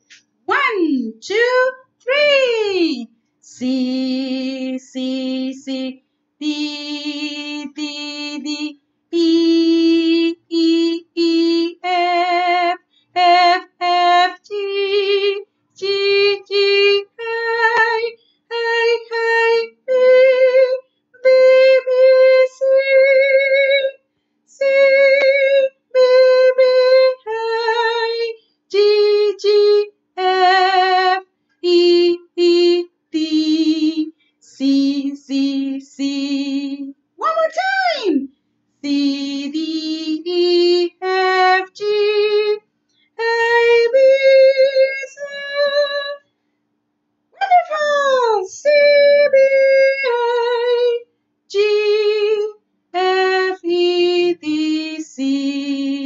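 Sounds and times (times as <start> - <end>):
woman singing a scale: 0.5 - 42.6, 43.2 - 46.2, 47.4 - 56.0.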